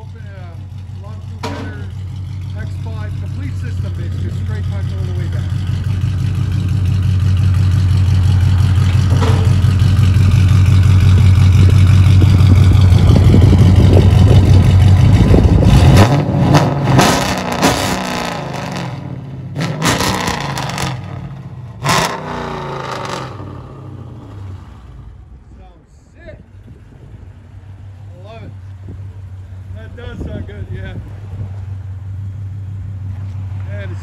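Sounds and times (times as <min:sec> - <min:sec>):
car engine deep drone: 0:00.0 - 0:34.0.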